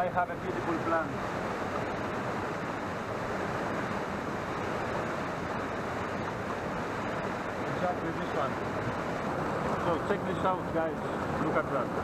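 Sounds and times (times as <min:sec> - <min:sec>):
stream rushing over boulders: 0:00.0 - 0:12.0.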